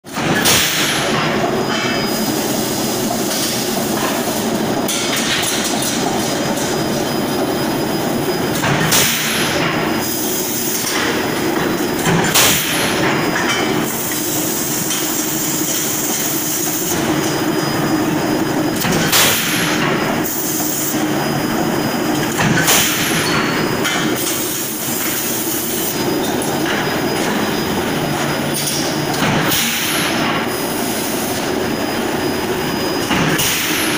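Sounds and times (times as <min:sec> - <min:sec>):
loud machinery din: 0:00.1 - 0:02.0, 0:03.9 - 0:30.6.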